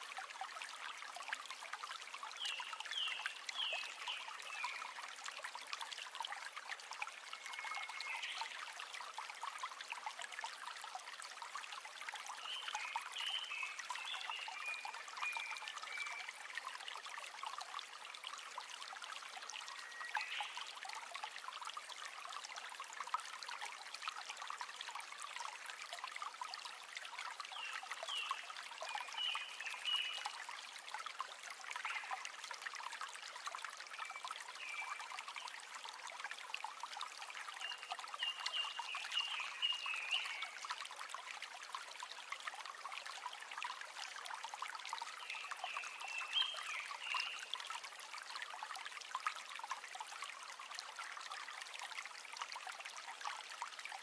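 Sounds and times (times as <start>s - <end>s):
river water over stones: 0.0s - 54.0s.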